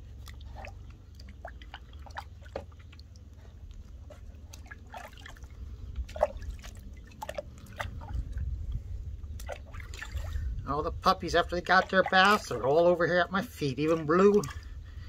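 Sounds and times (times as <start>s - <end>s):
low steady rumble: 0.0s - 15.0s
water splashing in plastic tub: 0.0s - 15.0s.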